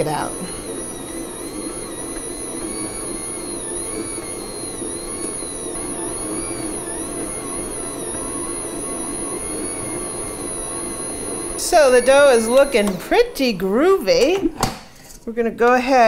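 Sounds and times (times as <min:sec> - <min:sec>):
stand mixer motor whirring: 0:00.0 - 0:14.3.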